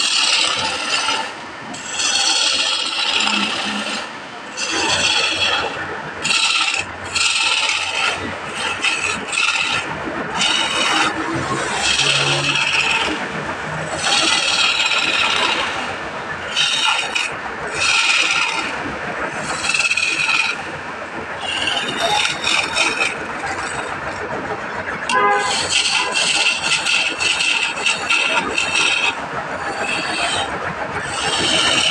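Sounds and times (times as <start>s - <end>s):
lathe tool scraping wood: 0.0s - 31.9s.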